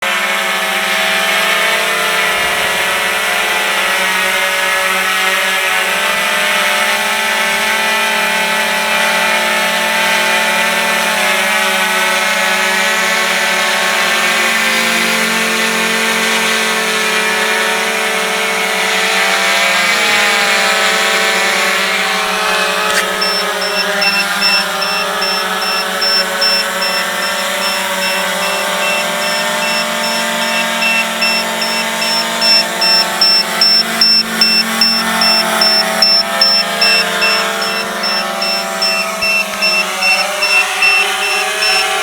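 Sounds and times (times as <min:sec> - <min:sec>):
quadcopter motors whining: 0:00.1 - 0:42.0.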